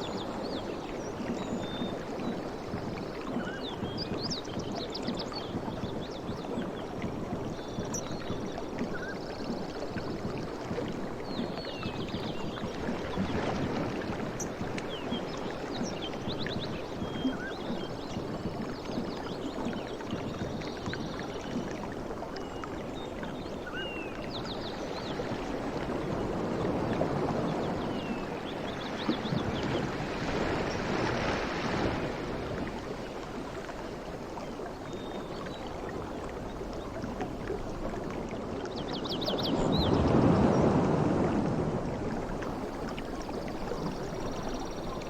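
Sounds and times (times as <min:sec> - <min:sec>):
ocean waves on shore: 0:00.0 - 0:45.0.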